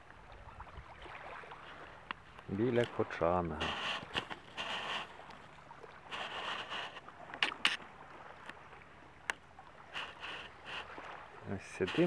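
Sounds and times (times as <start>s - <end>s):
small waves lapping on shore: 0.0s - 12.0s.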